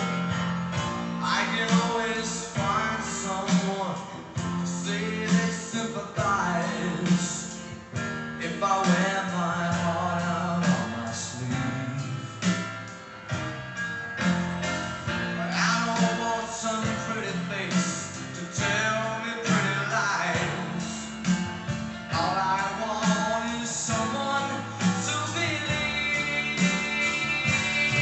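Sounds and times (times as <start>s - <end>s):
person singing: 0.0s - 12.6s, 15.3s - 28.0s
guitar: 0.0s - 28.0s
steady bass notes: 0.0s - 28.0s.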